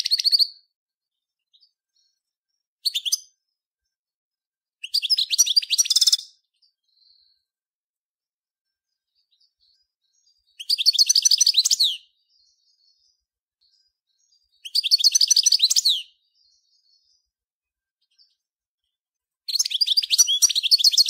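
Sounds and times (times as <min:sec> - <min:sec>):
goldfinch twittering song: 0:00.0 - 0:03.6, 0:04.8 - 0:07.5, 0:08.8 - 0:21.0.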